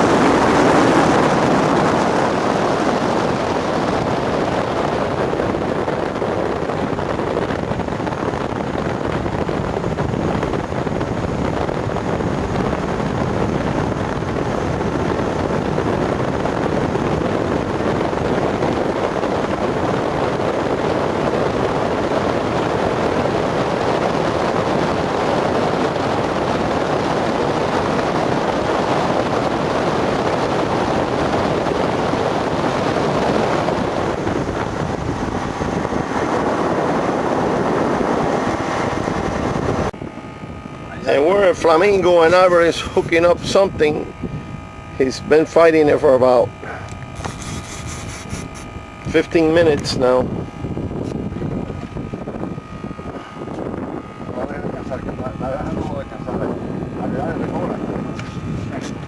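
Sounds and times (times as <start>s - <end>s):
motorboat rushing across water: 0.0s - 59.0s
wind on microphone: 0.0s - 59.0s.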